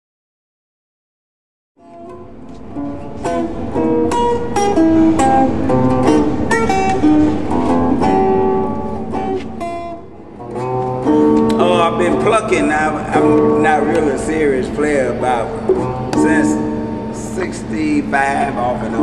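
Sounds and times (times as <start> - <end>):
plucked string instrument melody: 1.8 - 19.0.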